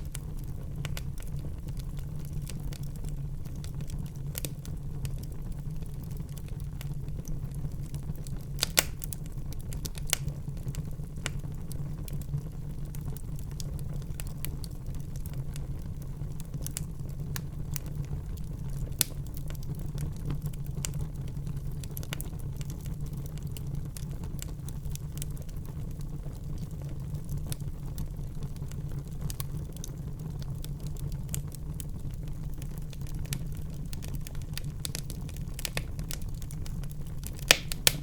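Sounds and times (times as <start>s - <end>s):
burning logs crackling and popping: 0.0s - 38.0s
low rumble of flames: 0.0s - 38.0s.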